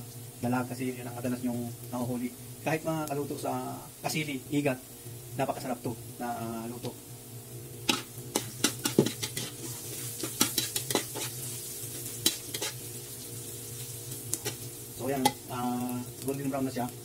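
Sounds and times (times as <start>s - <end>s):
garlic and onion sizzling in oil: 0.0s - 17.0s.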